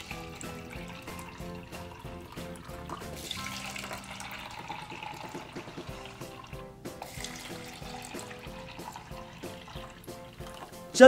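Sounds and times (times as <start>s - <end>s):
water pouring into plastic cups: 0.0s - 10.9s
rhythmic background music: 0.0s - 11.0s.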